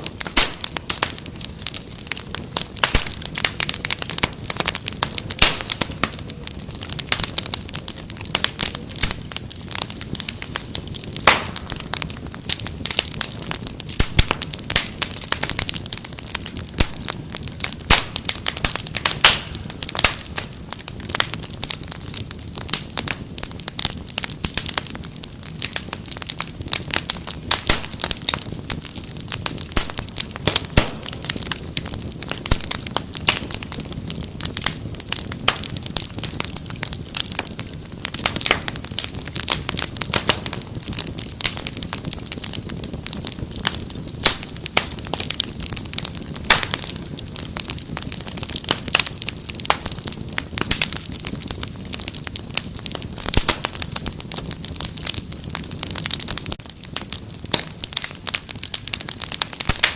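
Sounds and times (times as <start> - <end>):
low rush of flame: 0.0 - 59.9
wood fire crackling: 0.0 - 59.9.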